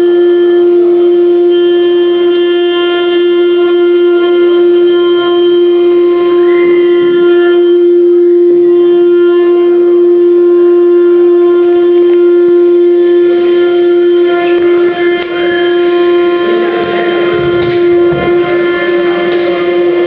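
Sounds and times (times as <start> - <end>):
router spindle whine: 0.0 - 20.0.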